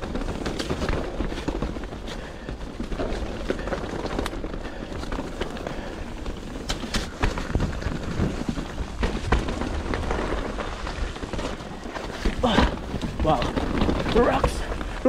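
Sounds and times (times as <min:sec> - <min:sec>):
bike clacking and rattling: 0:00.0 - 0:15.0
bike tyres rumbling over dirt: 0:00.0 - 0:15.0.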